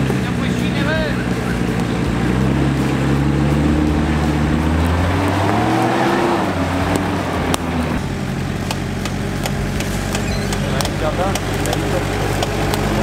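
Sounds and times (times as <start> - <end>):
engine pulling under load: 0.0 - 13.0.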